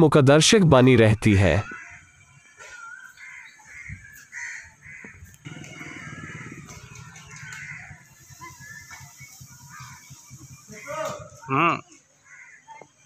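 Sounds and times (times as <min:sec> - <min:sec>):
crows cawing: 0:01.6 - 0:12.9.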